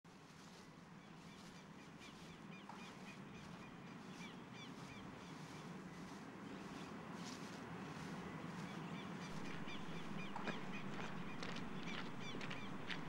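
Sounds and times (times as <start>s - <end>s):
low background hum: 0.1s - 13.0s.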